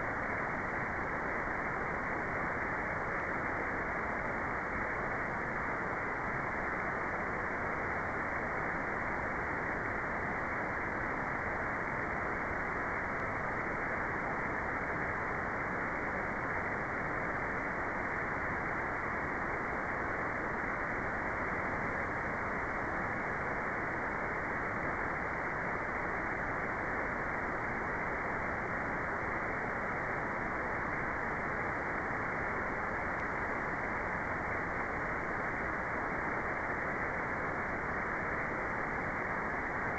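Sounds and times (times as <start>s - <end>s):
dull white noise hiss: 0.0s - 39.9s.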